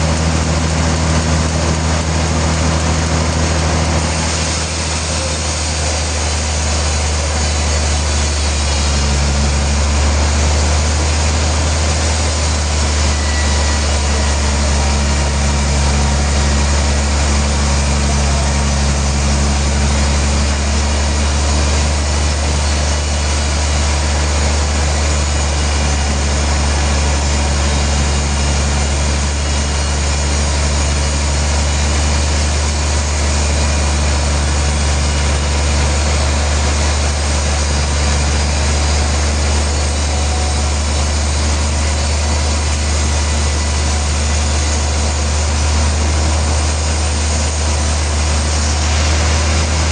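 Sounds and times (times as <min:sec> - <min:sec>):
sawmill machinery running: 0:00.0 - 0:49.9.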